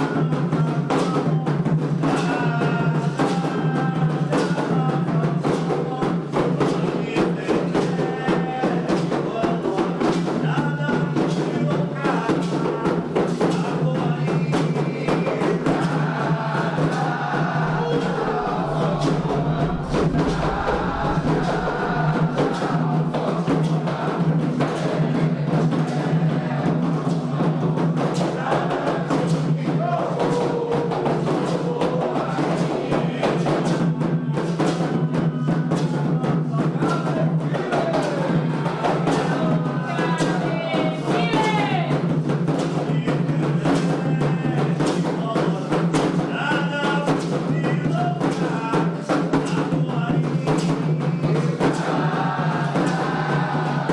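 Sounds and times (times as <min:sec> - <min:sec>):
voices singing: 0:00.0 - 0:34.1, 0:34.8 - 0:42.0, 0:42.8 - 0:53.9
hand drums drumming: 0:00.0 - 0:53.9.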